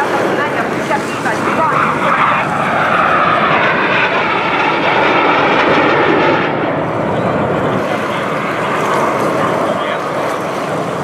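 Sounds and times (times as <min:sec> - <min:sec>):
jet aircraft rushing noise: 0:00.0 - 0:11.0.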